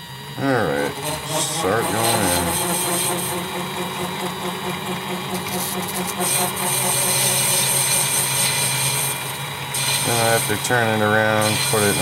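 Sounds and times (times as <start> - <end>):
lathe running: 0.0 - 12.0
tool cutting metal hiss: 0.5 - 12.0.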